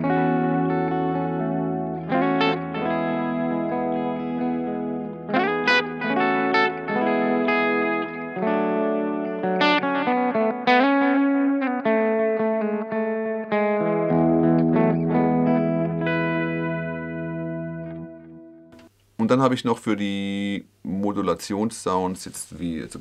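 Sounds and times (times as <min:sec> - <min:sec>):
electric guitar with delay: 0:00.0 - 0:18.8.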